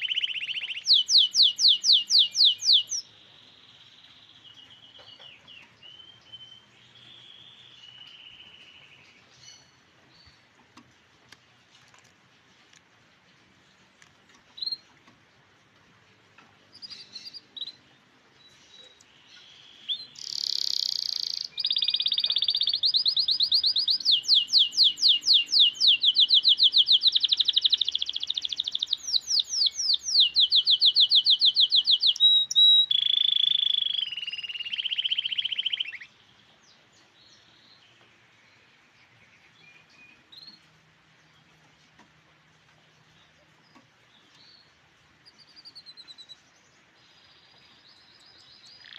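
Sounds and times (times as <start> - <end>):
canary singing trills: 0.0 - 10.5, 16.7 - 41.6, 42.8 - 48.9.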